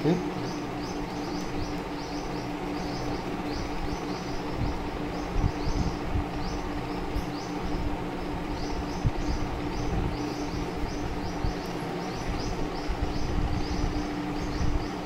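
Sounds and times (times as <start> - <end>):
low steady hum: 0.0 - 15.0
small bird chirping: 0.0 - 15.0.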